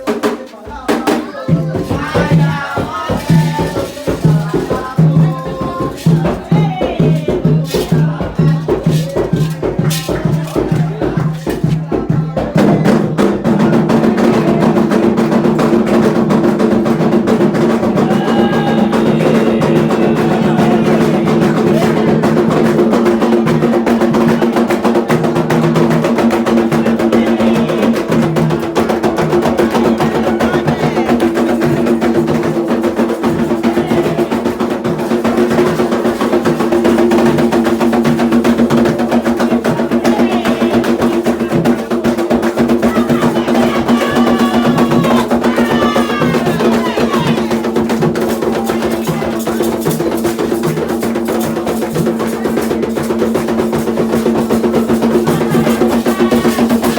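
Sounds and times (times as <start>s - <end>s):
fast hand drumming: 0.0s - 56.9s.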